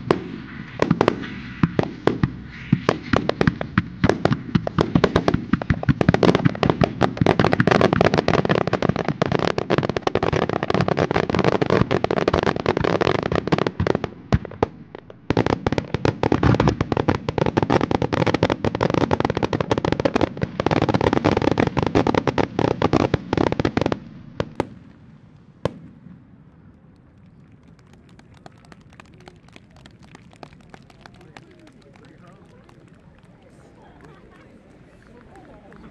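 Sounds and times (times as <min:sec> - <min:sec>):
fireworks bangs and crackling: 0:00.0 - 0:35.9.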